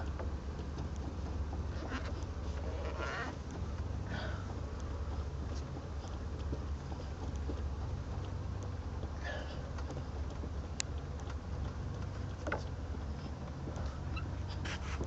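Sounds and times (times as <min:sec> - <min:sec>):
car engine droning: 0:00.0 - 0:15.0
faint clicks: 0:00.0 - 0:15.0.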